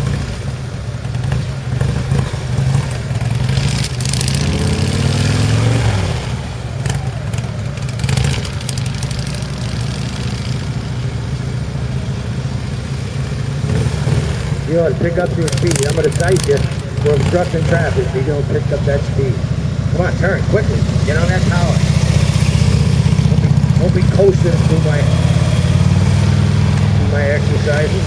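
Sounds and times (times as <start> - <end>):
motorcycle engine running at low speed: 0.0 - 28.0.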